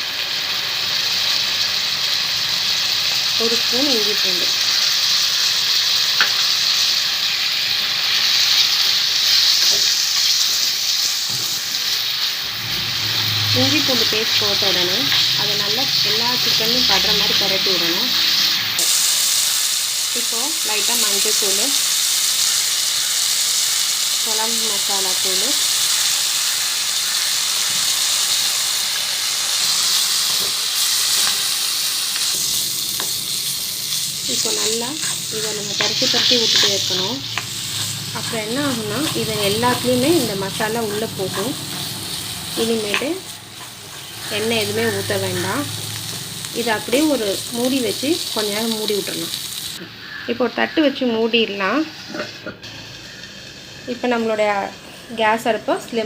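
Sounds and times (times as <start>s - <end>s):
chicken sizzling in oil: 0.0s - 56.0s.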